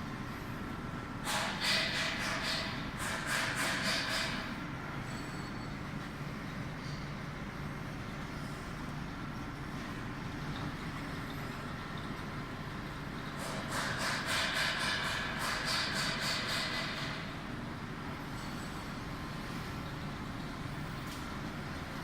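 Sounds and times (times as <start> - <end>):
car wash machinery humming: 0.0 - 22.0.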